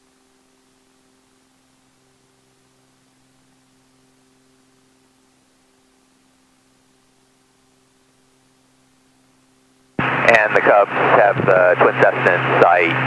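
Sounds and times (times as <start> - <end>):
faint steady hiss: 0.0 - 13.0
low hum: 0.0 - 13.0.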